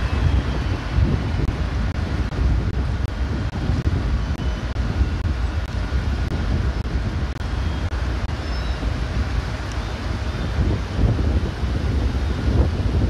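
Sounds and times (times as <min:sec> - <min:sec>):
distant traffic: 0:00.0 - 0:13.0
wind buffeting microphone: 0:00.0 - 0:13.0.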